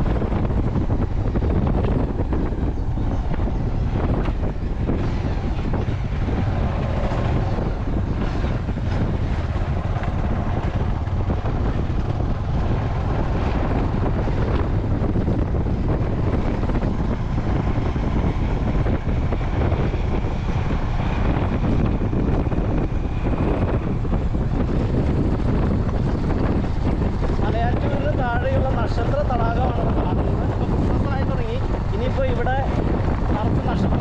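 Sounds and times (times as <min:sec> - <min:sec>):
motorcycle running: 0:00.0 - 0:34.0
road noise: 0:00.0 - 0:34.0
wind buffeting microphone: 0:00.0 - 0:34.0.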